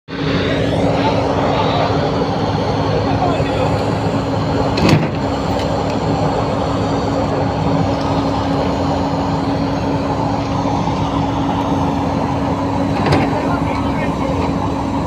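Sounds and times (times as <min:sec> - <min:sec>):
heavy machinery engine humming: 0:00.1 - 0:15.0.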